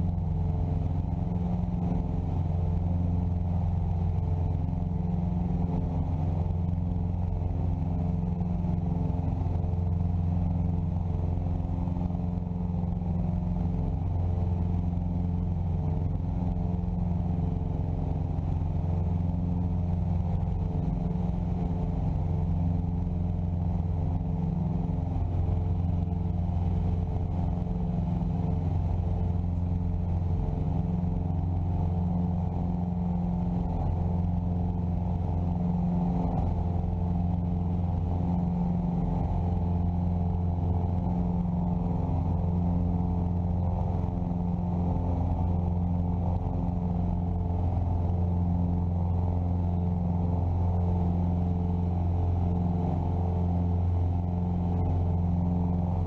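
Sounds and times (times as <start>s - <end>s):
aircraft engines and propellers: 0.0s - 56.0s.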